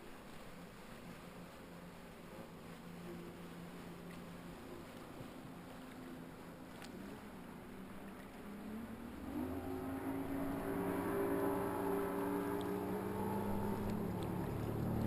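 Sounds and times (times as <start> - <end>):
motorboat engine drone: 0.0 - 15.0.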